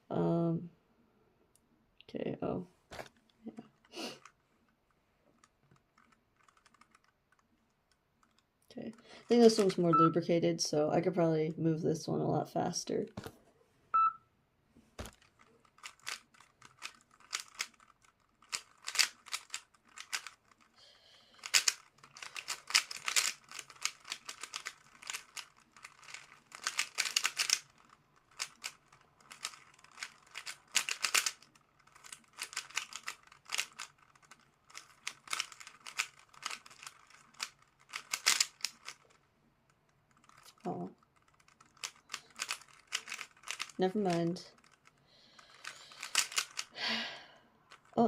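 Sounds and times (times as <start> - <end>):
puzzle cube clicking and rattling: 3.1 - 10.0, 15.0 - 46.8, 47.6 - 48.0.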